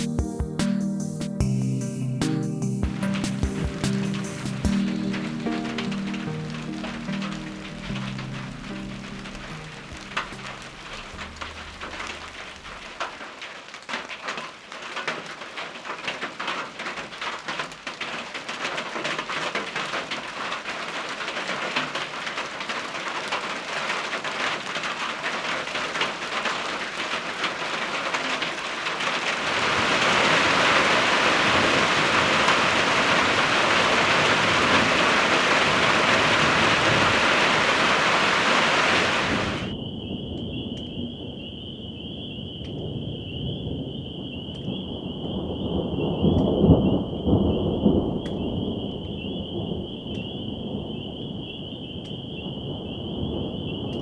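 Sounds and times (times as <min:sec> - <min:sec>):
rain falling: 0:00.0 - 0:39.8, 0:43.6 - 0:54.0
raindrops ticking on surfaces: 0:00.0 - 0:41.0, 0:42.5 - 0:42.9, 0:43.6 - 0:54.0.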